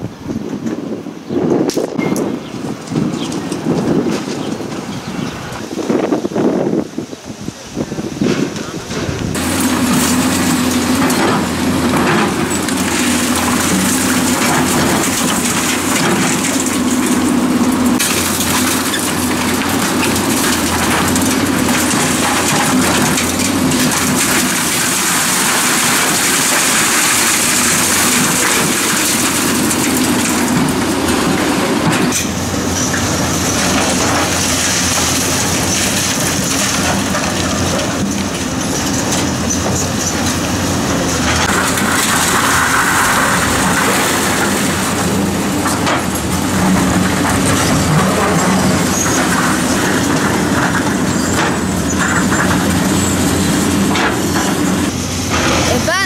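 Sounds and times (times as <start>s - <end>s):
excavator diesel engine under load: 0.0s - 56.0s
concrete rubble crashing and scraping: 8.3s - 56.0s.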